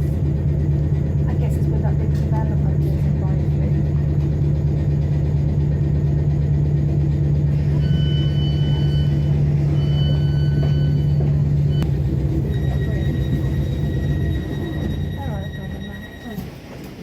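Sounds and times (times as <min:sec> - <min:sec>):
train low rumble and hum: 0:00.0 - 0:17.0.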